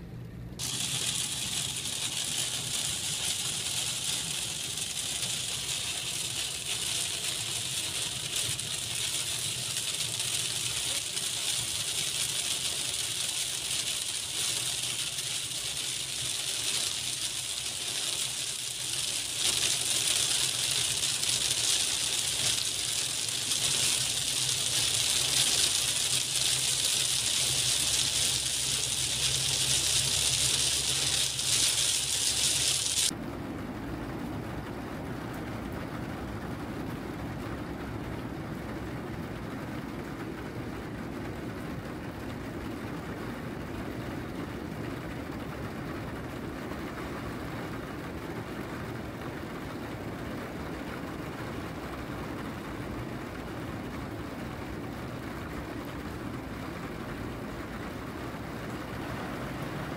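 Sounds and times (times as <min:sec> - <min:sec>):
heavy rain drumming on car roof: 0:00.6 - 0:33.2, 0:36.1 - 0:59.9.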